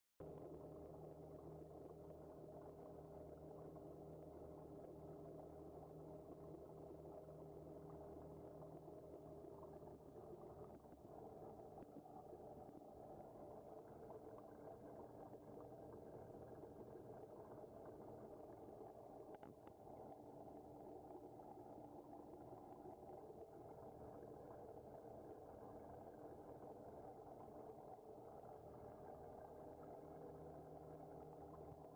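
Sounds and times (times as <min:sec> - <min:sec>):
water pump hum: 0:00.2 - 0:31.9.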